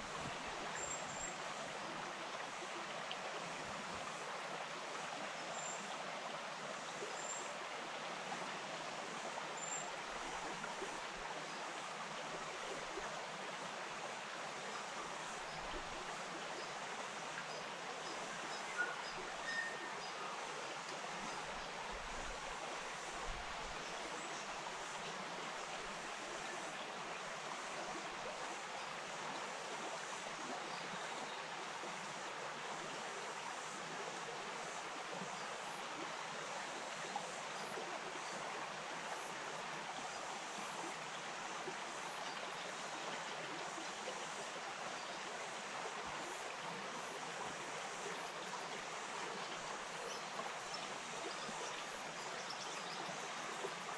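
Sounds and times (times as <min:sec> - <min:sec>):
stream babbling over stones: 0:00.0 - 0:53.9.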